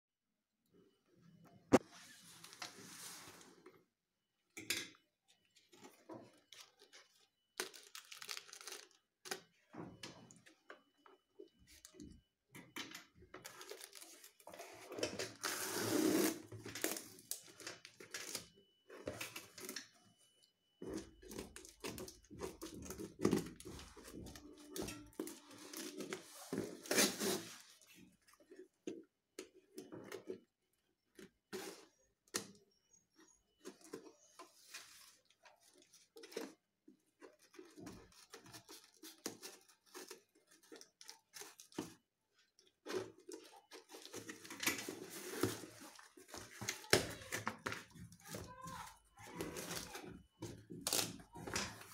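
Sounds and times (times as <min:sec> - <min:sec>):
cardboard and plastic rustling: 0:01.7 - 0:03.9, 0:05.3 - 0:51.9.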